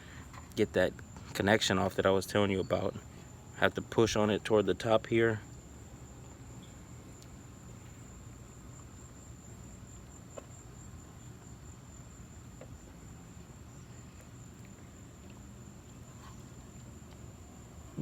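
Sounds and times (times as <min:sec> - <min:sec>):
crickets trilling: 0:00.0 - 0:18.0
low background hum: 0:00.0 - 0:18.0.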